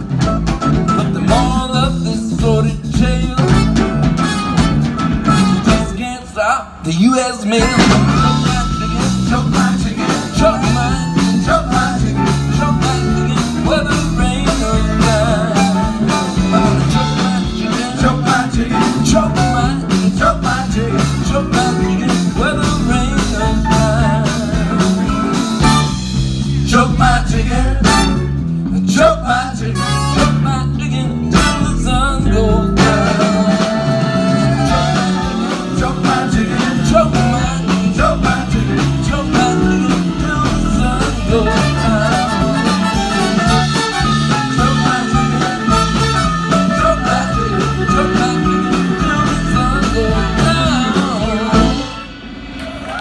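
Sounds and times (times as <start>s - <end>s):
live band playing blues: 0.0s - 52.6s.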